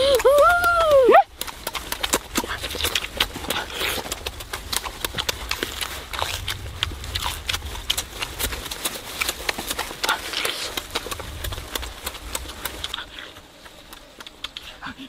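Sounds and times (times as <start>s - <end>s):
mouth smacking and crunching: 0.0s - 15.0s.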